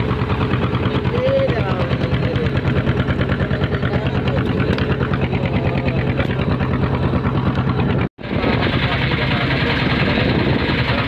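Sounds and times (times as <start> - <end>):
boat engine chugging: 0.0 - 11.0.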